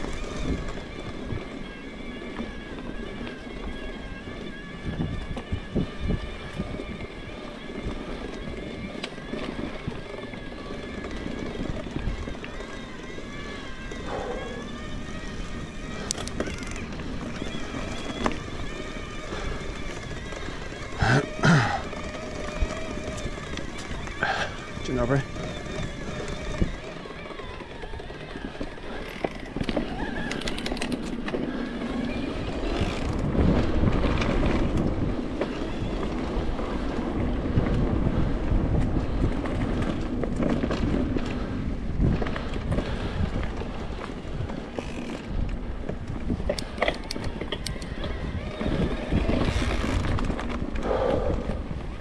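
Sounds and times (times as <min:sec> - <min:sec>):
bike clicks and rattles: 0:00.0 - 0:52.0
tyres rolling over dirt: 0:00.0 - 0:52.0
wind buffeting microphone: 0:00.0 - 0:52.0.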